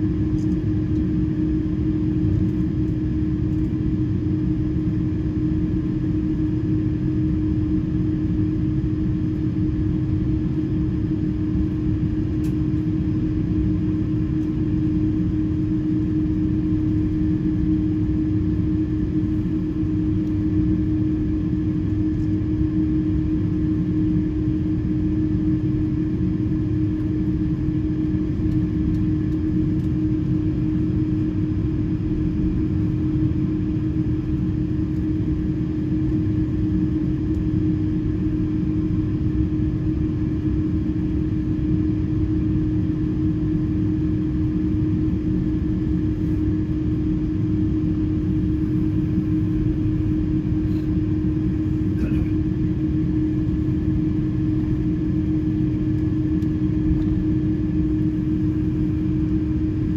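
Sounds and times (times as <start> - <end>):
aircraft engine rumble in cabin: 0.0 - 59.9
constant low hum: 0.0 - 59.9.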